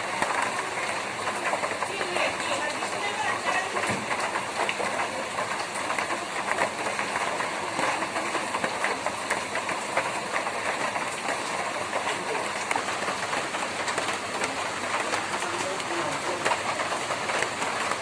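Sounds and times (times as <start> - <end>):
rain on a tin roof: 0.0 - 18.0.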